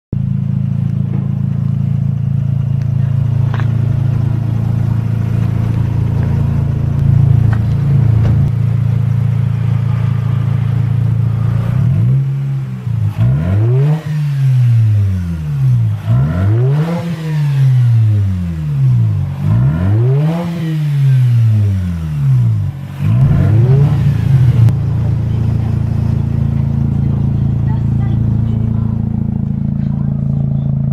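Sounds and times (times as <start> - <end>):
rotary engine idling and revving: 0.2 - 30.9.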